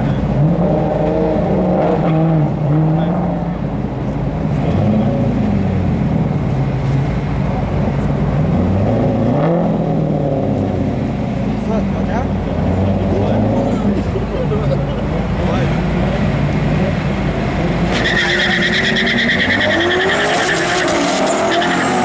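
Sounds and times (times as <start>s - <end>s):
engines revving: 0.0s - 22.0s
race car engines idling: 0.0s - 22.0s.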